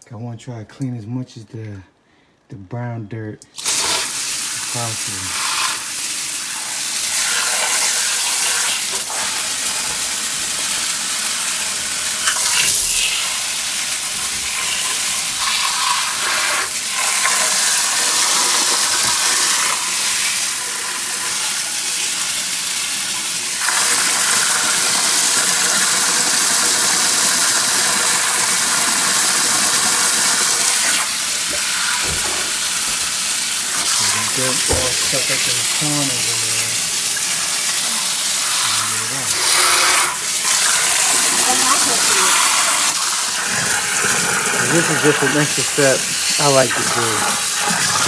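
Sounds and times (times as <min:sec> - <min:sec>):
hose spraying water: 0:03.6 - 0:48.0.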